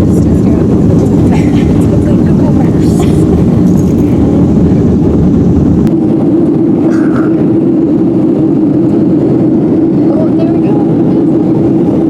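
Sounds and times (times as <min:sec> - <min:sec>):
jet airliner cabin rumble: 0:00.0 - 0:12.0.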